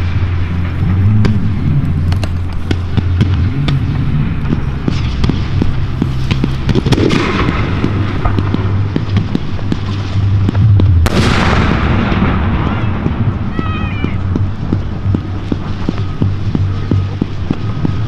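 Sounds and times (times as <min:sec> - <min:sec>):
fireworks bangs and pops: 0:00.0 - 0:18.0
fireworks crackling: 0:00.0 - 0:18.0
steady low hum: 0:00.0 - 0:18.0.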